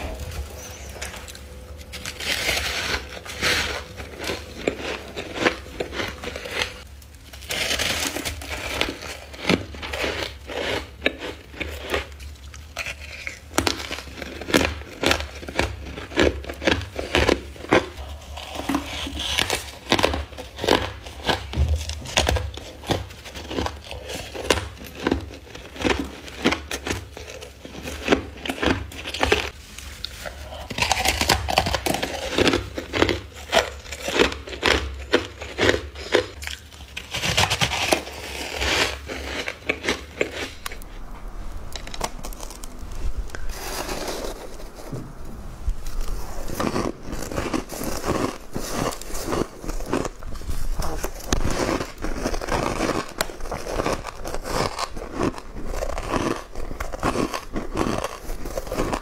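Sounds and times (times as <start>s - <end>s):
person chewing crunchy frost: 0.0s - 59.0s.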